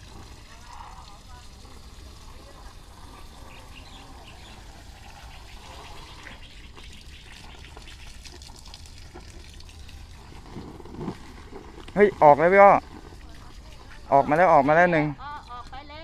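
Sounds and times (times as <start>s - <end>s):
faint water-like hiss: 0.0s - 16.0s.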